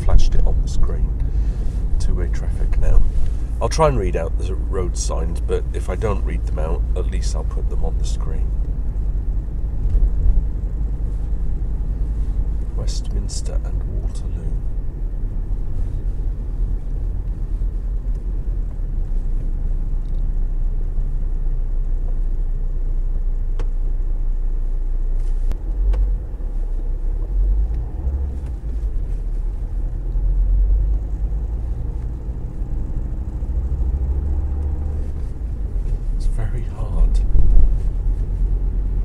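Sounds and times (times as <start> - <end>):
car road rumble: 0.0 - 39.0.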